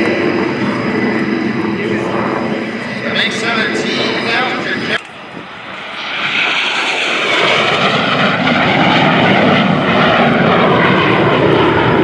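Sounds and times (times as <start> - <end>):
jet engine flyby: 0.0 - 12.0.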